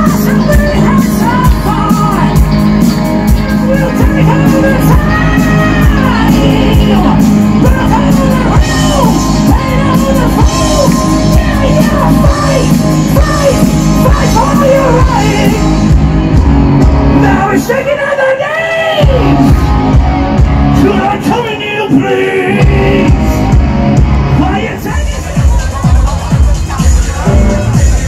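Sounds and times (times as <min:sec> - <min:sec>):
bass: 0:00.0 - 0:28.0
drums: 0:00.0 - 0:28.0
lead singer: 0:00.0 - 0:28.0.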